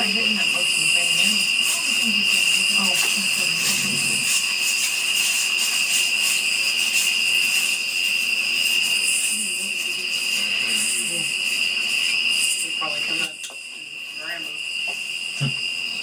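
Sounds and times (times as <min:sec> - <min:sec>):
faint shimmering insect chorus: 0:00.0 - 0:16.0
insect high-pitched trill: 0:00.0 - 0:16.0.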